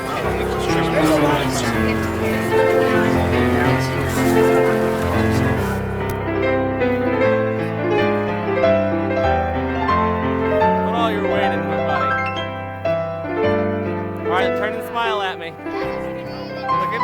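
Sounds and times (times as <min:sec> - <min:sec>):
piano background music: 0:00.0 - 0:17.0.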